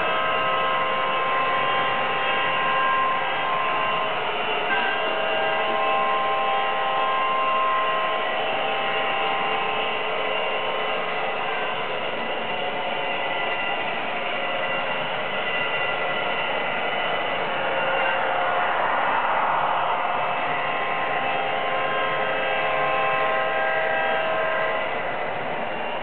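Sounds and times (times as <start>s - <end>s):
model train motors whirring: 0.0s - 26.0s
thin whining tones: 0.0s - 26.0s.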